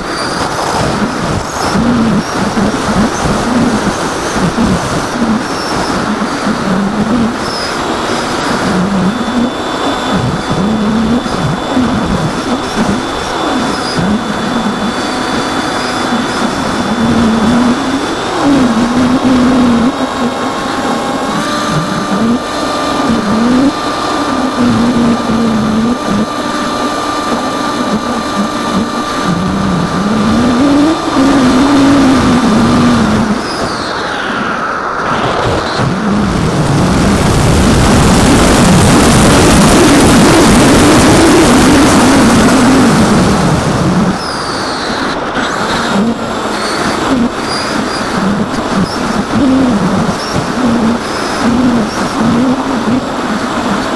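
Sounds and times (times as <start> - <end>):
model plane motor buzzing: 0.0 - 34.4, 35.7 - 53.9
wind rush over airframe: 0.0 - 53.9.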